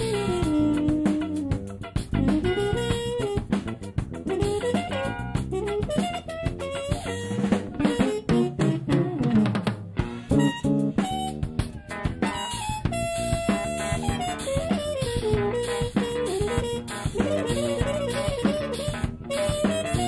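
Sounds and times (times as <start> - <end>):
drum kit: 0.0 - 20.0
jazz-funk band playing: 0.0 - 20.0.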